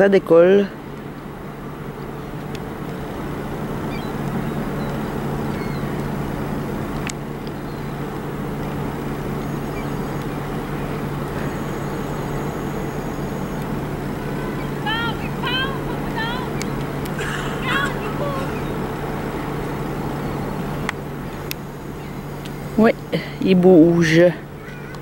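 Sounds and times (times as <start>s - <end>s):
low hum of ship machinery: 0.0s - 25.0s
thrusters churning water: 0.0s - 25.0s.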